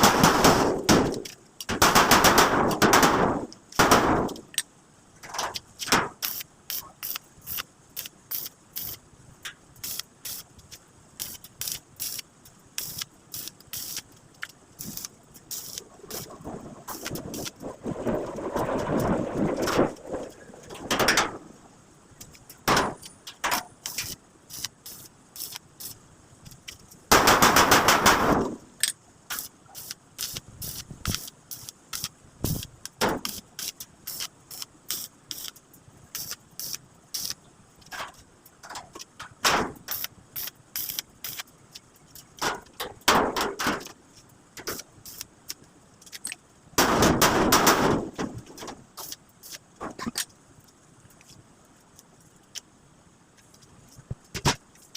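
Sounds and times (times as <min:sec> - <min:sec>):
crackling hissing bursts: 0:00.0 - 0:54.9.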